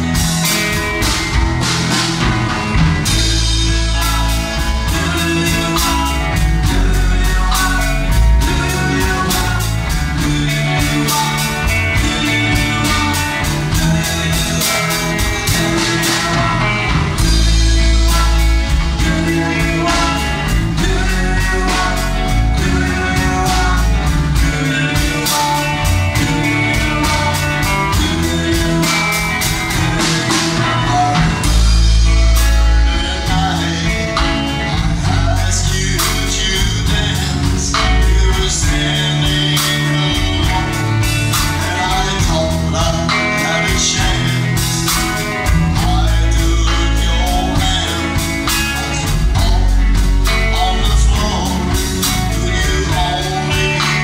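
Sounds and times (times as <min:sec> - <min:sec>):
drum beat: 0:00.0 - 0:54.0
person singing: 0:00.0 - 0:54.0
rock and roll band music: 0:00.0 - 0:54.0.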